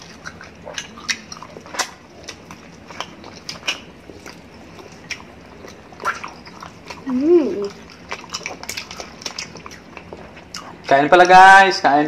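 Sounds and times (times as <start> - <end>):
chewing with mouth clicks: 0.0 - 11.7.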